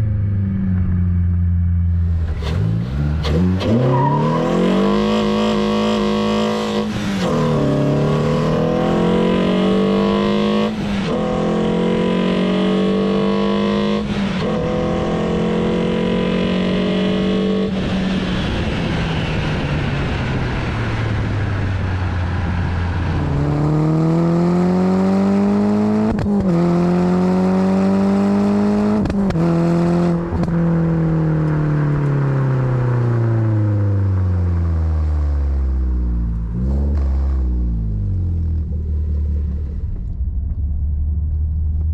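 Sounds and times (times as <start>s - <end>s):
car engine revving through gears: 2.0s - 32.2s, 36.2s - 40.6s.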